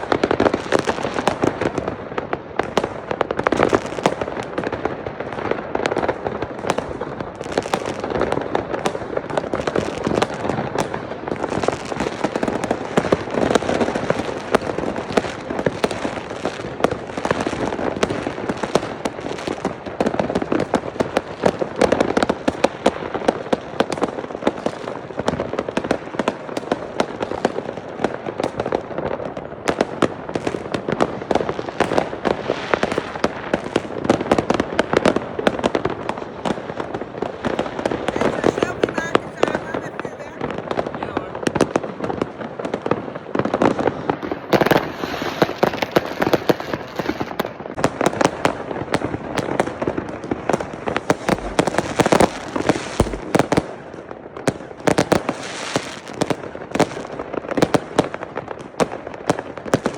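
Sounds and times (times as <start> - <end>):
fireworks and firecrackers exploding: 0.0 - 59.9.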